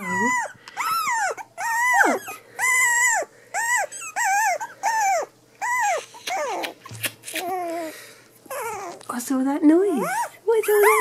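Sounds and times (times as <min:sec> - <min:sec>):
puppy whining: 0:00.0 - 0:09.2, 0:09.8 - 0:11.0.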